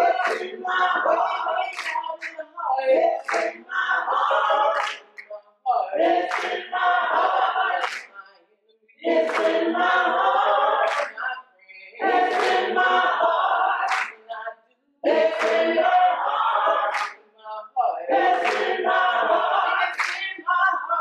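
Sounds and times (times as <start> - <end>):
gospel choir singing a cappella: 0.0 - 21.0.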